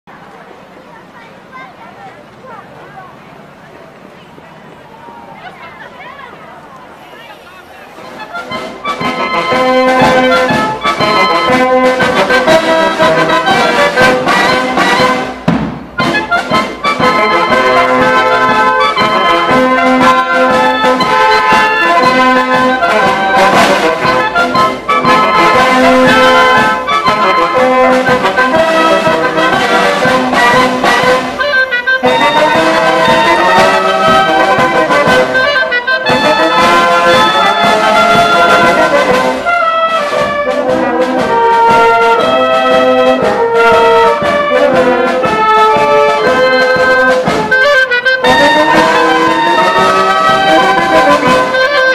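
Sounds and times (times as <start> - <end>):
wind band playing: 0.4 - 51.9
snare drum: 8.1 - 51.9.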